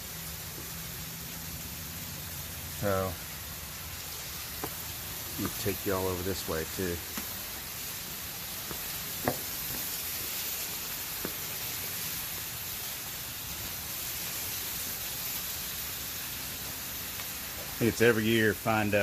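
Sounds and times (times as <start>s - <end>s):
waterfall hiss: 0.0s - 19.0s.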